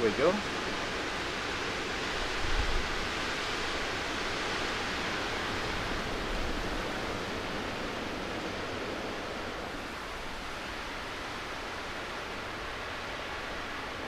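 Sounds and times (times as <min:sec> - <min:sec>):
storm wind hissing: 0:00.0 - 0:14.0
wind gusts rumbling on microphone: 0:00.0 - 0:14.0.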